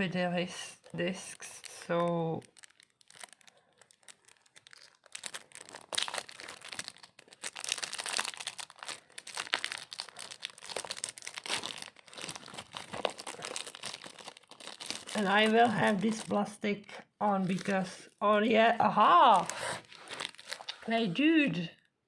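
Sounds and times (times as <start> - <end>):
plastic wrapping crinkling: 0.0 - 16.6, 17.3 - 21.6.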